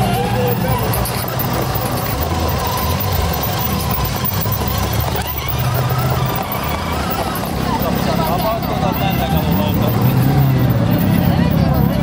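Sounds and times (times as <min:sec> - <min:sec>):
toy car motor and wheels rumbling: 0:00.0 - 0:12.0.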